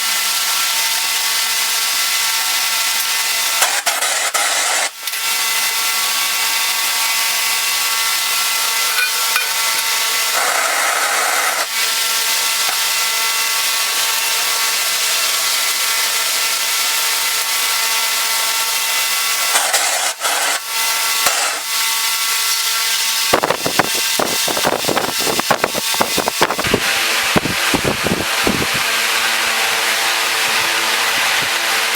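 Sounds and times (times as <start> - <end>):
power tool abrading metal: 0.0 - 31.9.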